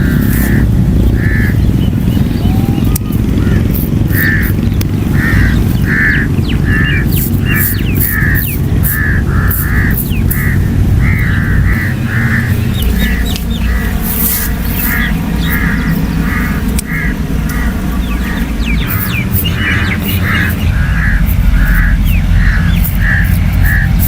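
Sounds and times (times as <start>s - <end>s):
harsh bird calls: 0.0s - 24.0s
higher bird chirps: 0.0s - 24.0s
steady low rumble: 0.0s - 24.0s.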